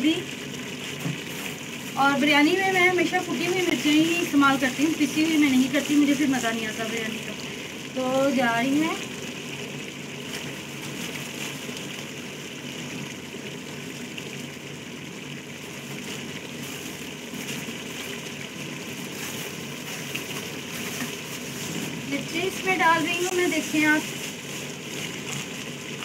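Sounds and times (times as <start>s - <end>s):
beef hissing in hot oil: 0.0s - 26.0s
faint crackles: 0.0s - 26.0s.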